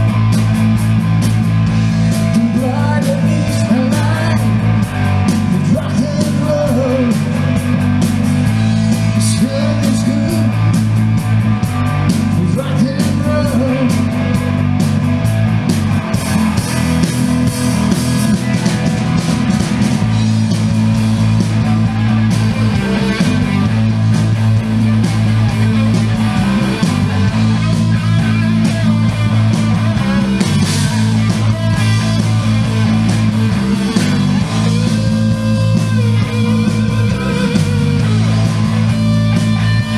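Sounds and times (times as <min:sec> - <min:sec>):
amplified electric guitars: 0:00.0 - 0:39.9
live rock band playing: 0:00.0 - 0:39.9.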